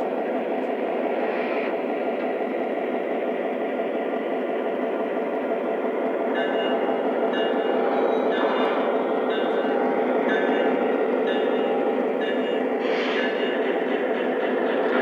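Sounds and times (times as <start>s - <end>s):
model train diesel engine sound: 0.0s - 15.0s.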